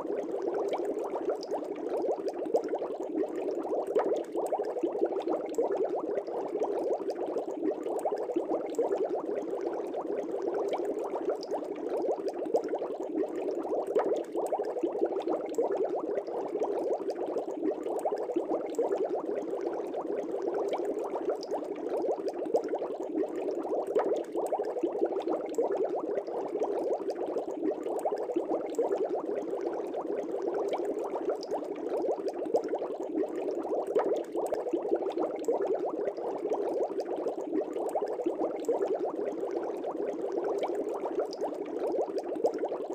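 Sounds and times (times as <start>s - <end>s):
aquarium air bubbling: 0.0s - 42.9s.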